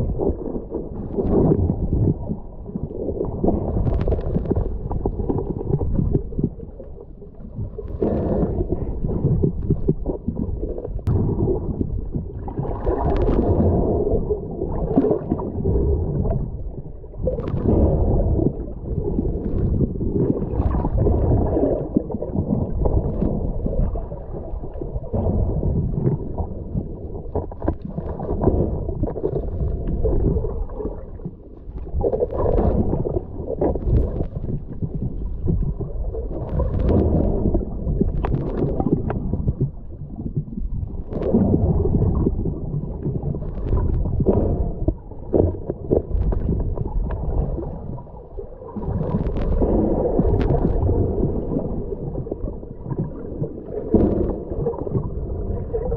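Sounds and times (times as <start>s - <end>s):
gurgling bubble bursts: 0.0s - 55.9s
muffled underwater rumble: 0.0s - 55.9s.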